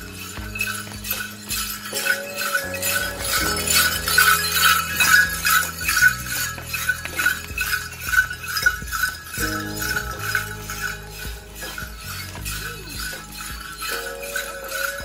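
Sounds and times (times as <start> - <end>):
metal bells jingling: 0.0 - 15.0.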